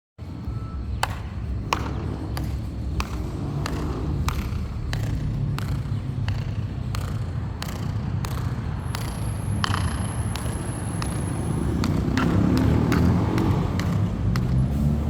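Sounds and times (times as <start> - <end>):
steady low rumble: 0.3 - 12.4.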